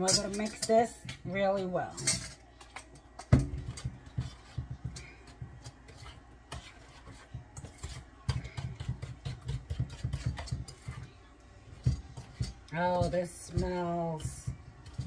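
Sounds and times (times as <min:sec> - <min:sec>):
spoon scraping metal bowl: 0:00.0 - 0:15.0.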